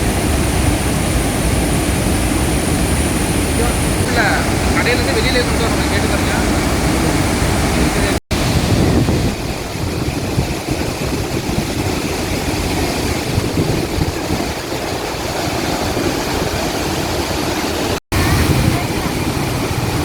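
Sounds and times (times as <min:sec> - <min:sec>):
waterfall roaring: 0:00.0 - 0:20.0
wind buffeting microphone: 0:00.0 - 0:20.0.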